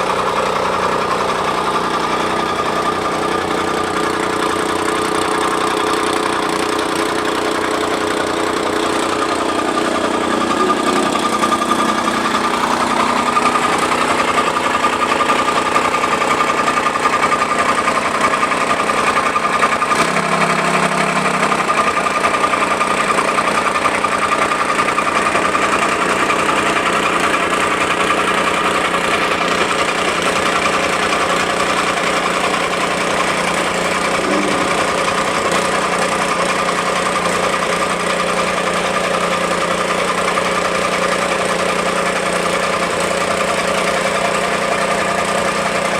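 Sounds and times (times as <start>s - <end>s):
tamping rammer engine running: 0.0s - 45.9s.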